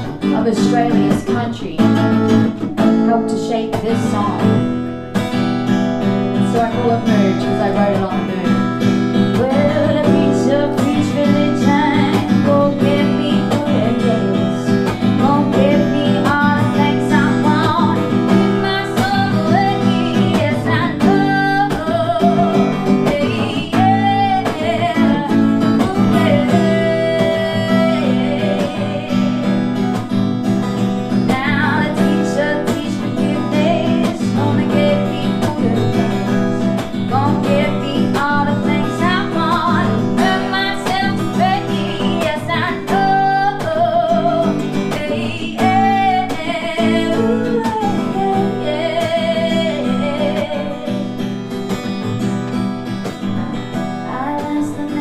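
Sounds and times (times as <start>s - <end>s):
person singing with vibrato: 0.0s - 4.8s, 6.0s - 52.0s
acoustic guitar strumming: 0.0s - 55.0s.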